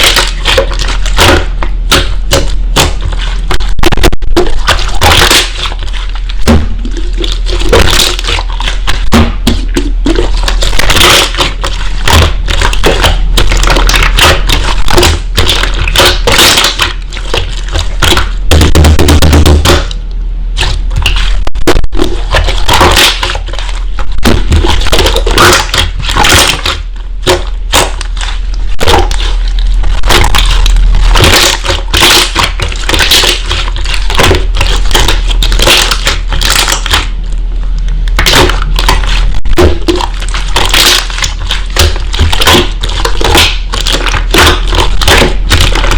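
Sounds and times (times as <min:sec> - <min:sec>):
slime crackling and popping: 0:00.0 - 0:45.9.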